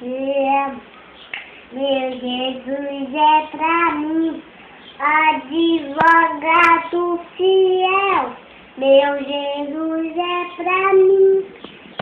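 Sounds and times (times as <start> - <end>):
boy singing unaccompanied: 0.0 - 0.9, 1.7 - 11.6.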